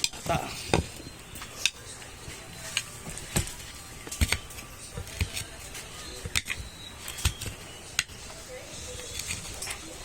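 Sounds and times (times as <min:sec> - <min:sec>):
metal utensils clinking on dishes: 0:00.0 - 0:10.0.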